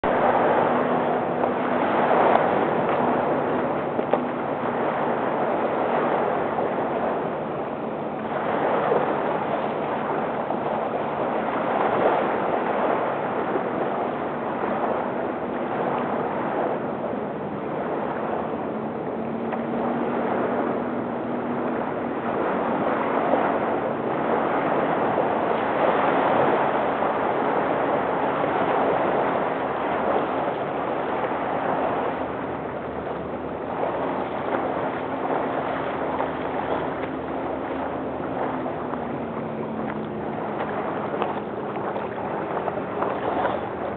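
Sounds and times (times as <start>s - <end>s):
small waves lapping on shore: 0.0s - 43.9s.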